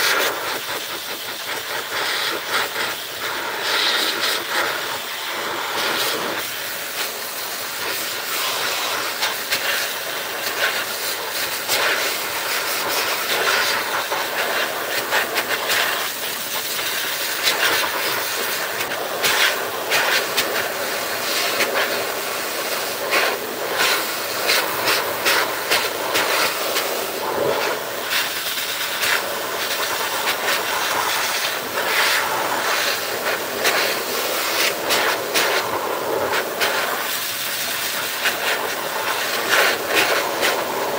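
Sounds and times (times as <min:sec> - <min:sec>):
grooming blower hissing: 0:00.0 - 0:40.9.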